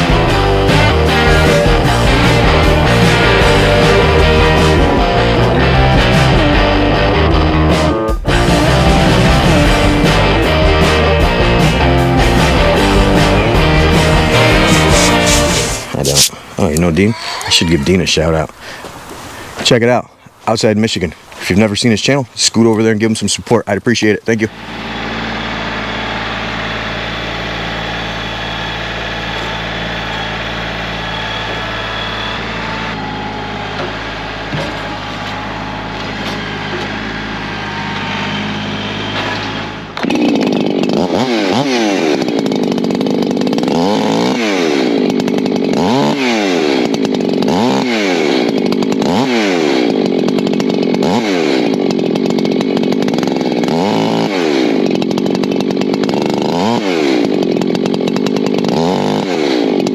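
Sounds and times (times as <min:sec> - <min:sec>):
chainsaw running: 0:00.0 - 0:19.6, 0:24.3 - 0:59.9.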